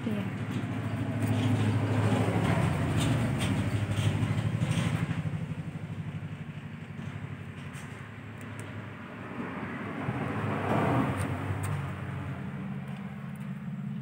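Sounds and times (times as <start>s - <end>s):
engine pulsing hum: 0.0s - 14.0s.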